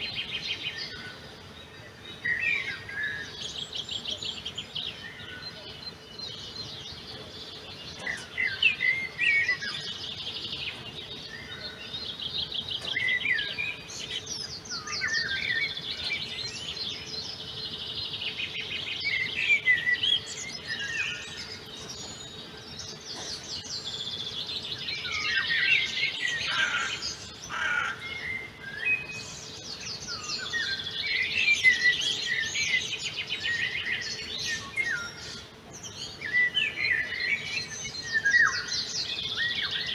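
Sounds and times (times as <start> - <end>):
birds singing: 0.0 - 39.9
faint steady hum: 0.0 - 39.9.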